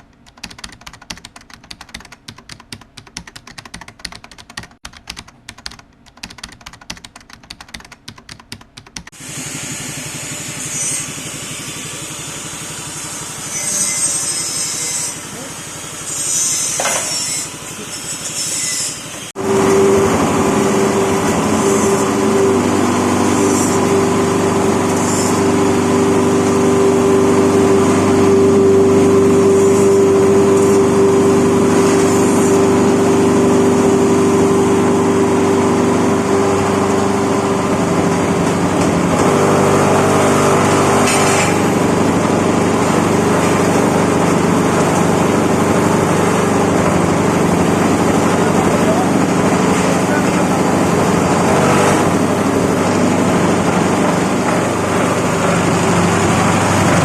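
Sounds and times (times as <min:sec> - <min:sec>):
machine mechanical hum: 0:00.0 - 0:57.0.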